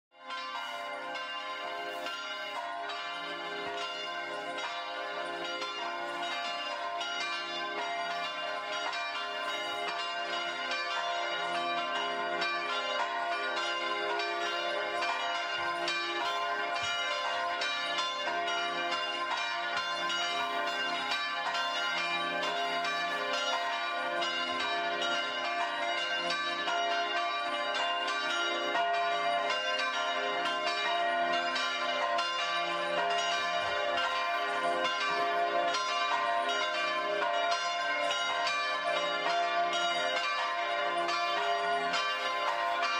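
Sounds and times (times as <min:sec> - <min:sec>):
church bells ringing: 0:00.2 - 0:42.9.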